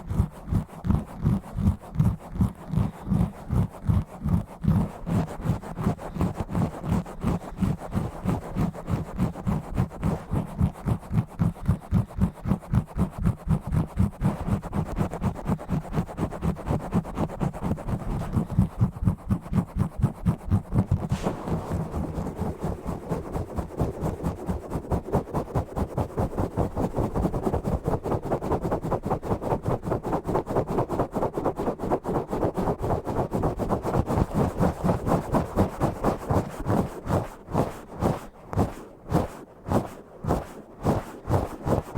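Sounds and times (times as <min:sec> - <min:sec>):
scratching on bare microphone: 0:00.0 - 0:41.9.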